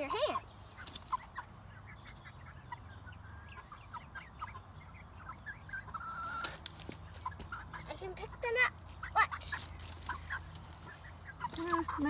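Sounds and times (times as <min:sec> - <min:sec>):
hens clucking and peeping: 0:00.0 - 0:12.0.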